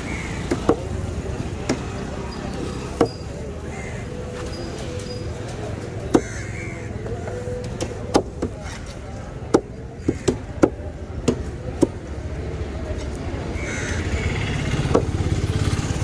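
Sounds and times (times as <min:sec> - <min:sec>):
vehicle engine: 0:00.0 - 0:16.0.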